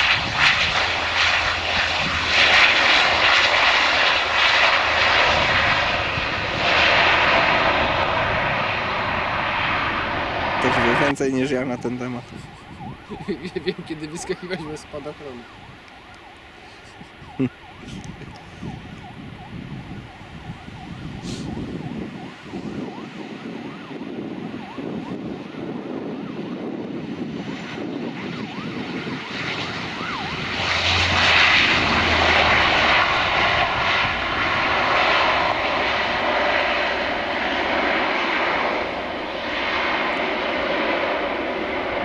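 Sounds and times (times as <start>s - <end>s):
turboprop engines and propellers: 0.0s - 42.0s.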